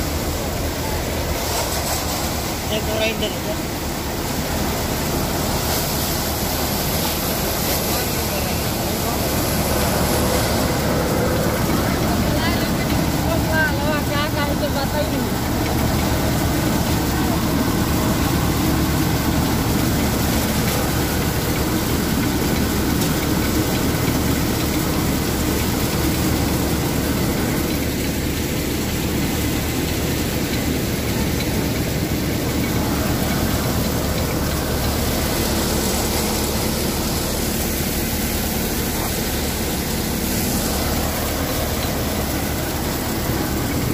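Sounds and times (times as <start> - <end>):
thresher running: 0.0 - 43.9
tractor engine running: 0.0 - 43.9.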